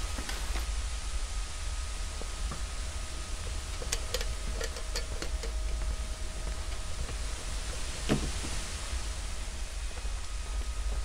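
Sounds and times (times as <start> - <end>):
hiss: 0.0 - 11.0
low electrical hum: 0.0 - 11.0.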